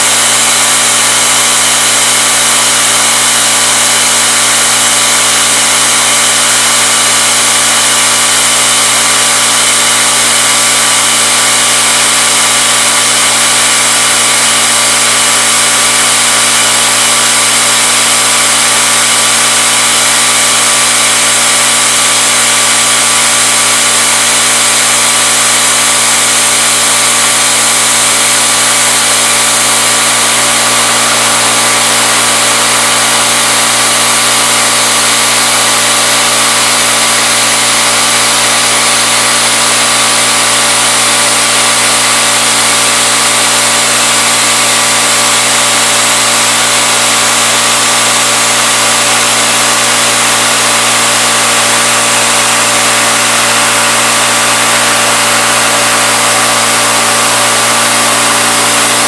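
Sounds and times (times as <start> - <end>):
milling machine hum and whine: 0.0 - 59.0.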